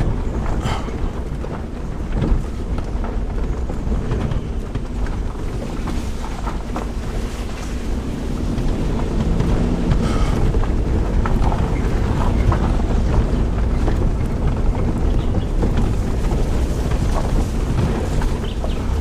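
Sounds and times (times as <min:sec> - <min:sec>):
vehicle driving rumble: 0:00.0 - 0:19.0
wind buffeting microphone: 0:00.0 - 0:19.0.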